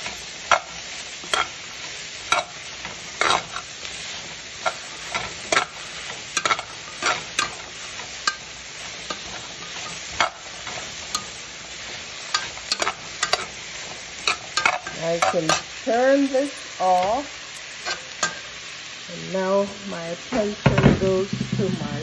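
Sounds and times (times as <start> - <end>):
spoon scraping against pan: 0.0 - 18.8
vegetables sizzling in oil: 0.0 - 22.0.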